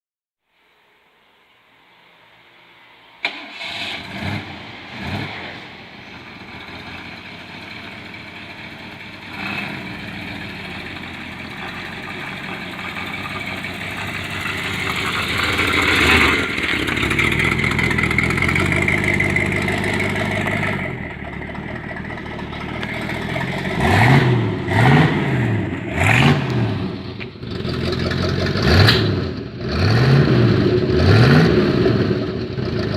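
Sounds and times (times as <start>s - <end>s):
car engine idling: 2.5s - 29.7s
car engine starting: 3.0s - 32.9s
engine revved in throttle blips: 3.2s - 32.9s.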